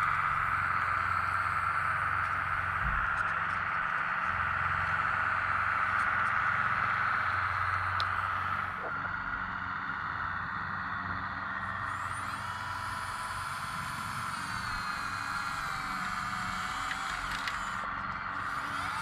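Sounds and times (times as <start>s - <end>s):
electric drive whining: 0.0s - 19.0s.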